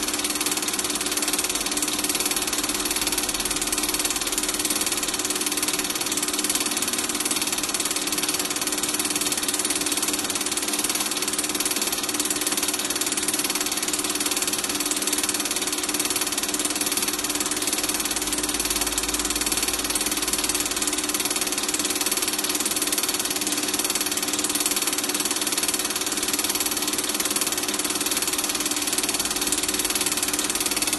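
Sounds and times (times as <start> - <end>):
film projector whirring: 0.0 - 30.9.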